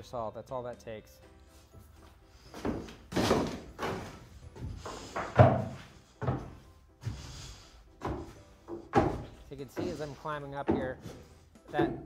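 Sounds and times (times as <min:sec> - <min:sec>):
footsteps on wooden stairs: 0:02.0 - 0:12.0.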